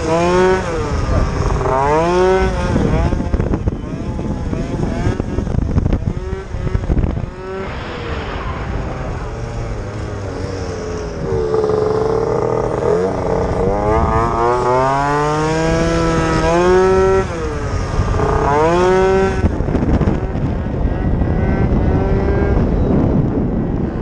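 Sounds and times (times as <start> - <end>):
scooter engine revving: 0.0 - 8.5, 10.2 - 22.6.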